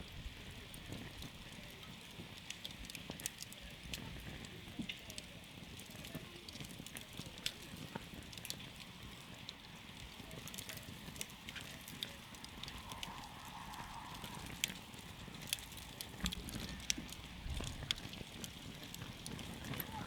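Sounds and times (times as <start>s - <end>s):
campfire crackling and popping: 0.0s - 20.0s
flames rushing: 0.0s - 20.0s.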